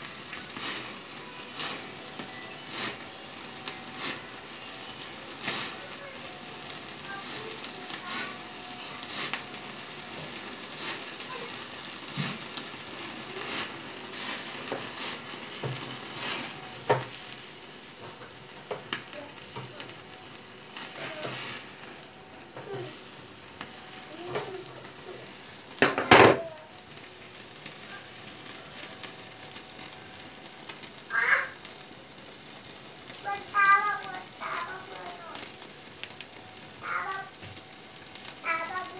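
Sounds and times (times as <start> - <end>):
chicken sizzling on a grill: 0.0 - 38.9.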